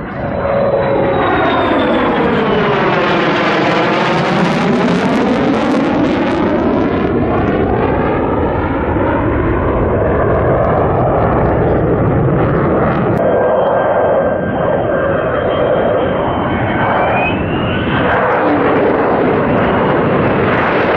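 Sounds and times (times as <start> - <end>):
jet engine roar: 0.0 - 20.9
sweeping phasing whine: 0.0 - 20.9.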